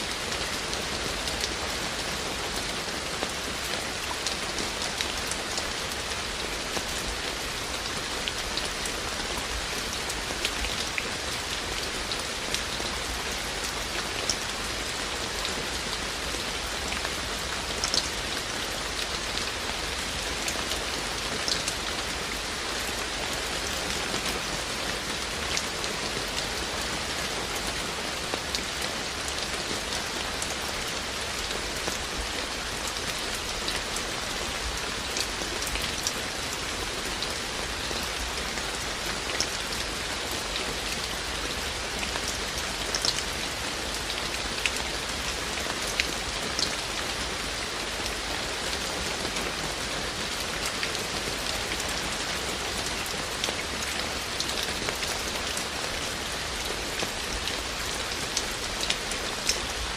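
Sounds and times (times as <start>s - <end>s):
raindrops ticking on surfaces: 0.0s - 59.9s
steady rain falling: 0.0s - 59.9s.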